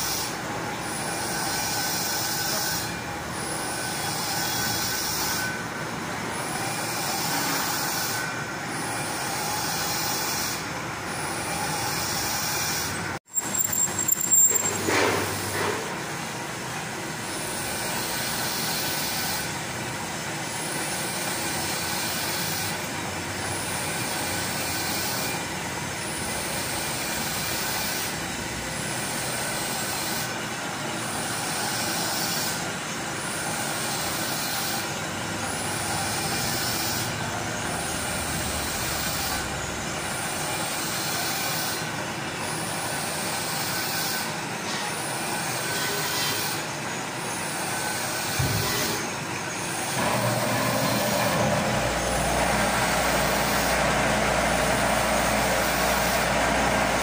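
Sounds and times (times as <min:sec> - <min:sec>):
cutting tool hissing on metal: 0:00.0 - 0:57.0
metal lathe whirring: 0:00.0 - 0:57.0.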